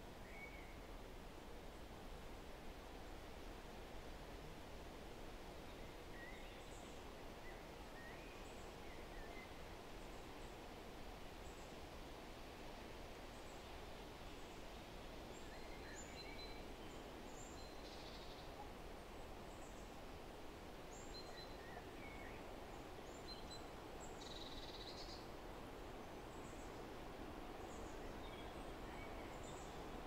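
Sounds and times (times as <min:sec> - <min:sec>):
wind through trees: 0:00.0 - 0:30.0.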